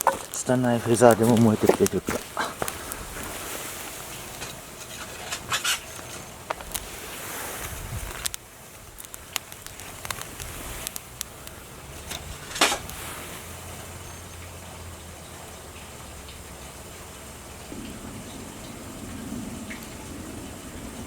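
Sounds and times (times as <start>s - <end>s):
kindling fire crackling and snapping: 0.0s - 21.0s.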